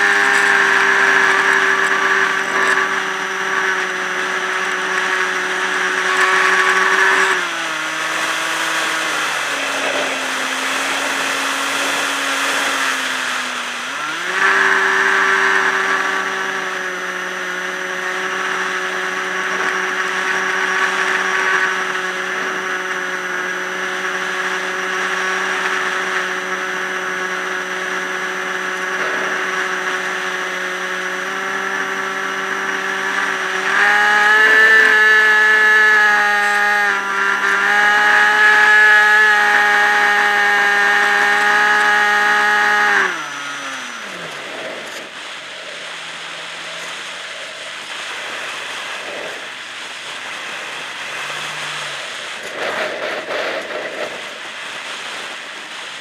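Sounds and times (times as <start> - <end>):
electric motor and propeller whining: 0.0 - 56.0.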